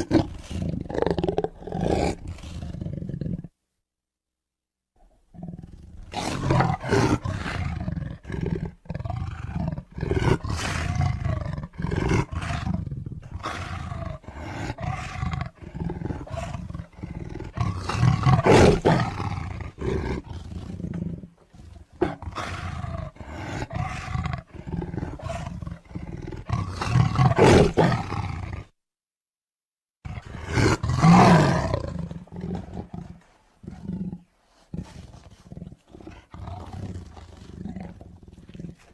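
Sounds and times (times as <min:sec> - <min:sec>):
deep rough animal roars: 0:05.4 - 0:28.7, 0:30.1 - 0:38.9.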